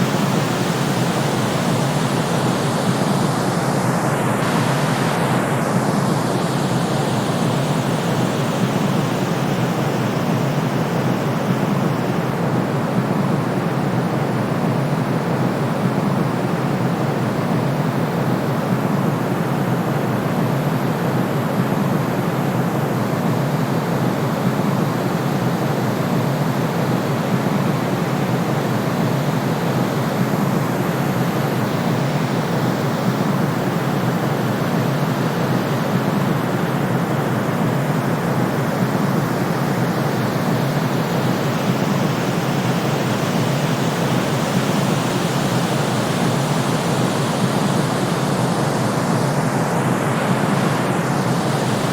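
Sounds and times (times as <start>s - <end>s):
white noise hiss: 0.0s - 51.9s.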